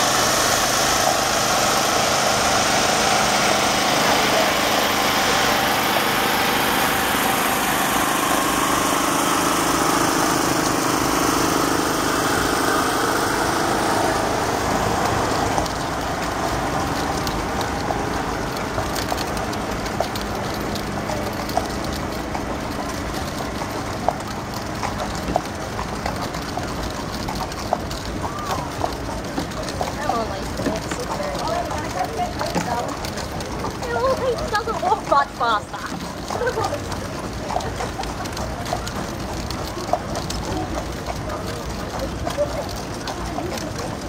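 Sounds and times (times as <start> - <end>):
horse hooves clopping on road: 0.0 - 44.0
portable generator running: 0.0 - 44.0.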